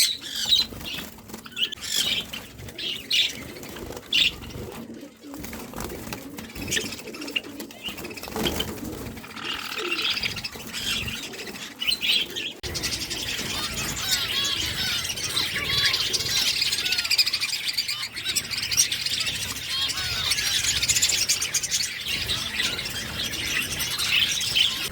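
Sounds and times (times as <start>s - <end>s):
wings flapping: 0.0s - 17.6s, 18.2s - 24.9s
cage birds chirping: 0.0s - 24.9s.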